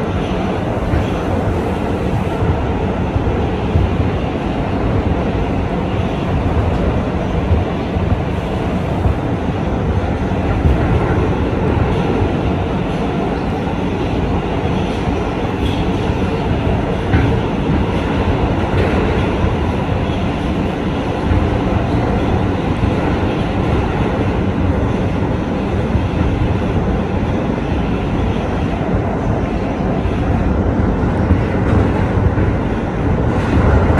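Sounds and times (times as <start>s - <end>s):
subway train rumbling in tunnel: 0.0s - 33.9s.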